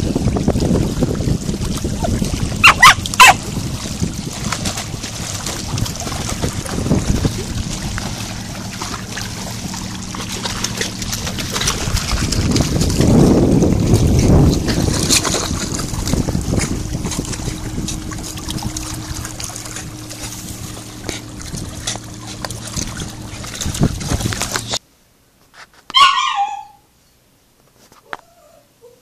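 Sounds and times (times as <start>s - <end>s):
creek water splashing over rocks: 0.0s - 24.8s.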